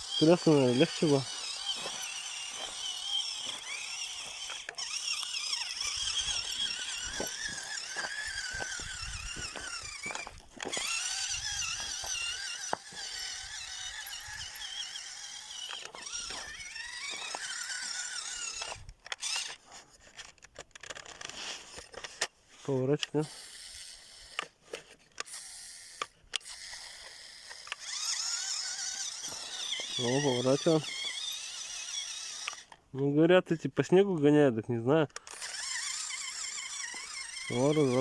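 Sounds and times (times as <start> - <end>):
toy car electric motor whining: 0.0 - 33.0, 35.1 - 38.0.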